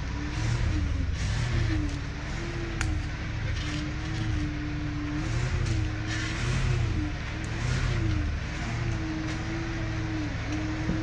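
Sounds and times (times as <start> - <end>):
truck engine under load: 0.0 - 11.0.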